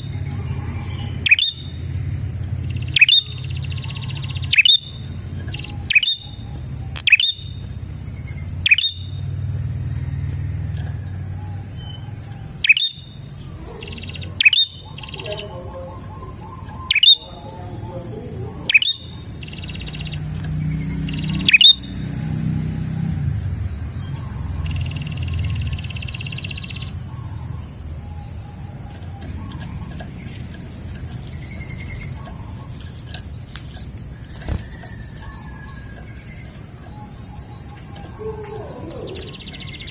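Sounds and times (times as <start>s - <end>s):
bird calling sharp notes: 0.0s - 9.3s, 9.9s - 22.5s, 24.0s - 39.9s
quiet bird chirps: 0.0s - 22.6s, 23.8s - 39.9s.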